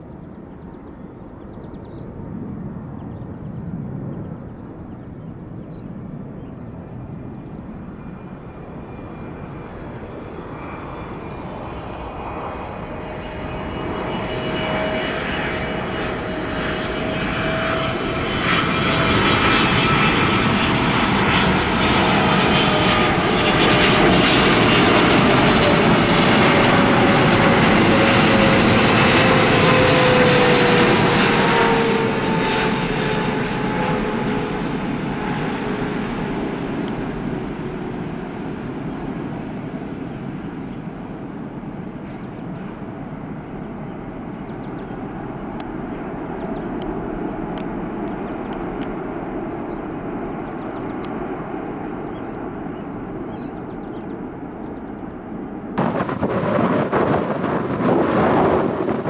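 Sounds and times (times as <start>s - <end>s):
jet engines whining: 0.1s - 59.0s.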